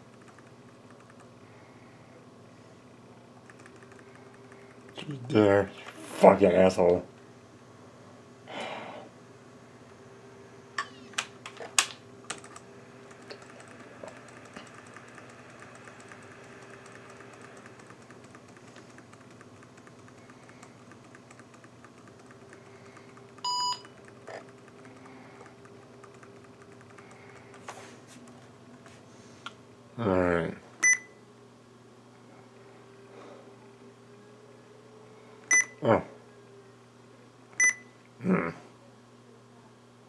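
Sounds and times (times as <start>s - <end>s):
faint machine hum: 0.0s - 40.0s.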